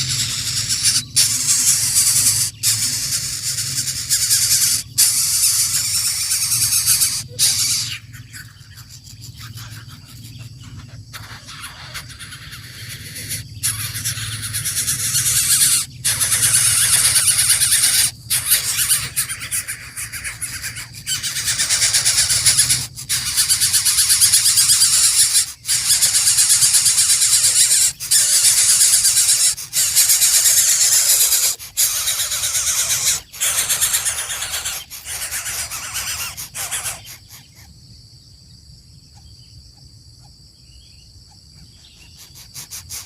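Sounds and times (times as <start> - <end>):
nestlings begging with rasping squeals: 0.0 - 37.8, 40.2 - 43.0.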